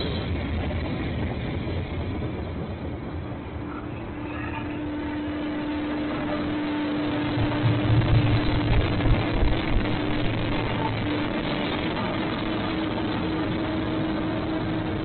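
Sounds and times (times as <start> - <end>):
diesel locomotive engine humming: 0.0 - 15.0.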